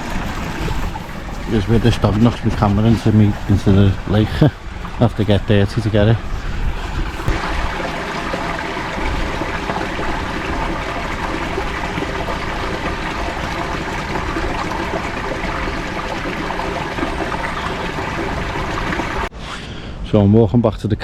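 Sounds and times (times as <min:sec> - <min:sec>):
water rushing and sloshing: 0:00.0 - 0:19.3.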